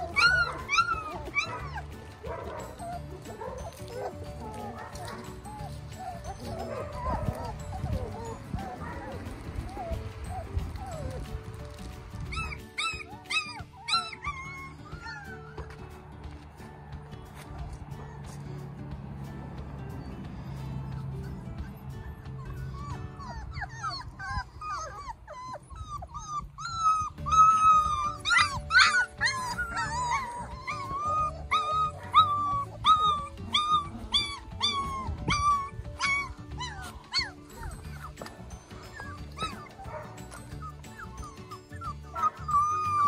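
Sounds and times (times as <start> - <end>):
puppies whining and yipping: 0.0 - 16.4, 17.3 - 43.0.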